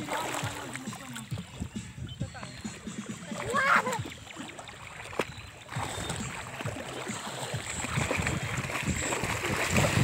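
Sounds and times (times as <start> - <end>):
small splashes: 0.0 - 1.6, 3.2 - 10.0
water churning and sloshing: 0.0 - 10.0.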